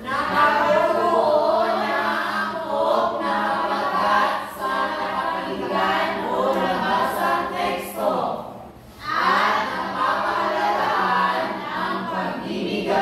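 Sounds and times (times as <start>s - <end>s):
students reading aloud in unison: 0.0s - 13.0s.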